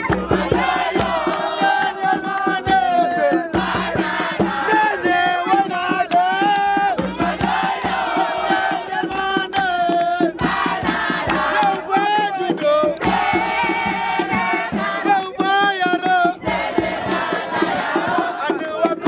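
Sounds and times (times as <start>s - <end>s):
group chanting and singing: 0.0s - 19.0s
sharp percussive strokes: 0.0s - 19.0s.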